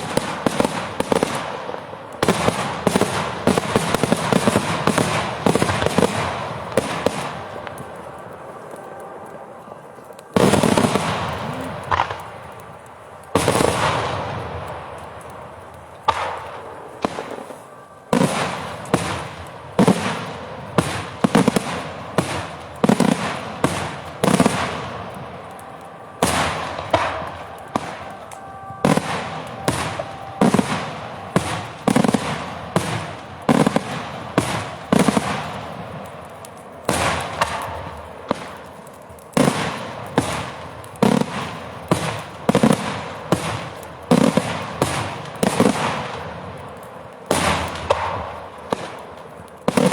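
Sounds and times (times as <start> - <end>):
fireworks banging with echo: 0.0 - 49.9.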